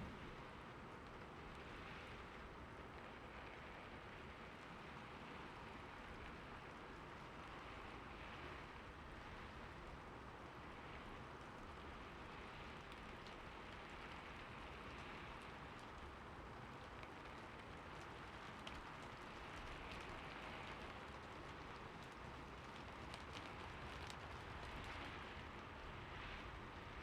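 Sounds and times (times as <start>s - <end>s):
faint rainfall: 0.0s - 27.0s.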